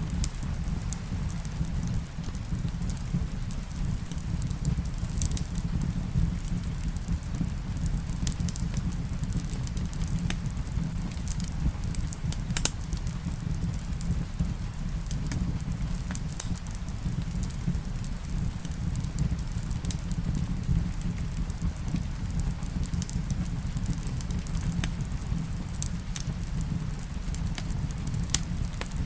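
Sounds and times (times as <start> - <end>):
soft hiss of rain: 0.0 - 29.0
wood fire crackling in fireplace: 0.0 - 29.0.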